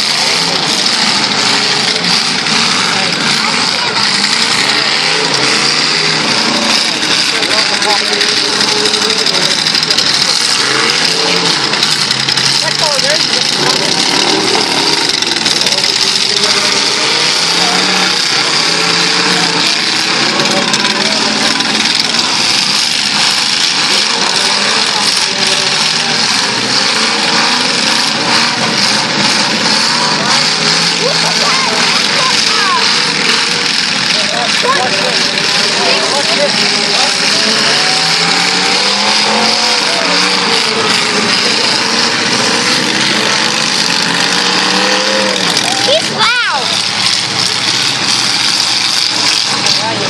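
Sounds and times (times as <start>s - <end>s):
car engines revving: 0.0s - 50.0s.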